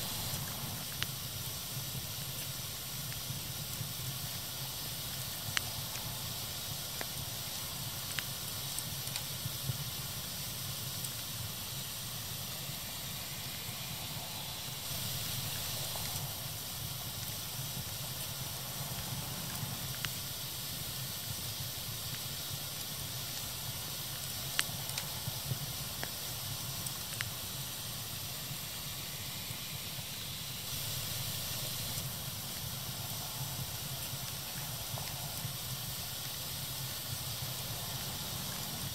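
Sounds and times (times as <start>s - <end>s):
fire burning with crackles: 0.0s - 38.9s.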